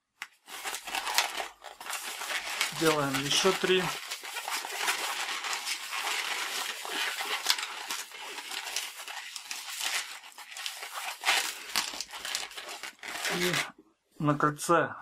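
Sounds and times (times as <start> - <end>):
latex balloon rubbing rustle: 0.6 - 13.7.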